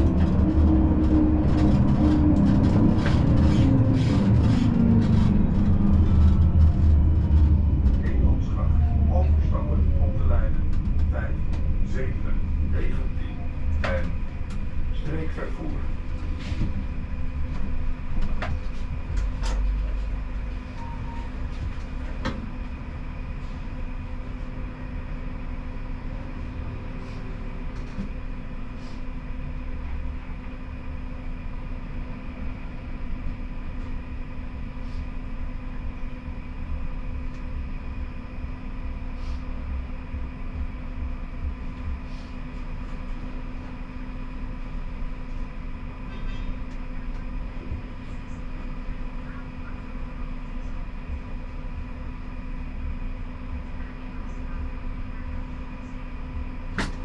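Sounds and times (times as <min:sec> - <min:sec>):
tram running rumble: 0:00.0 - 0:57.0.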